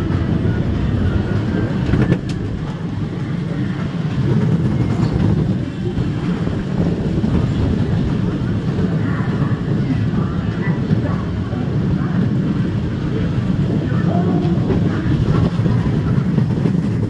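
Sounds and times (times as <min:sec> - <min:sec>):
ride car rumbling on rail track: 0:00.0 - 0:17.0.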